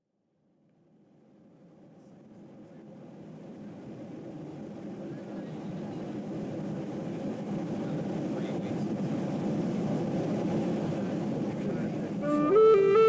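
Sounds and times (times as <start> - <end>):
low engine drone: 0.9 - 13.0.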